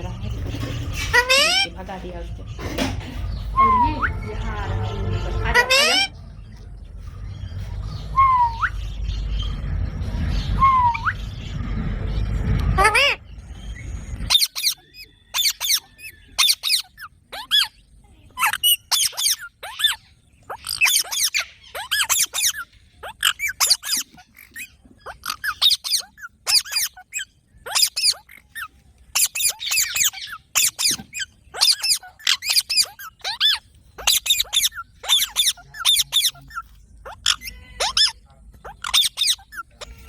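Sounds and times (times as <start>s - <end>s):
parrots chirping: 0.0s - 40.0s.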